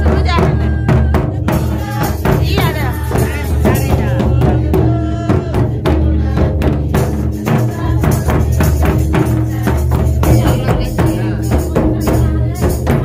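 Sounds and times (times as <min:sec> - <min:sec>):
barrel drums beaten: 0:00.0 - 0:13.0.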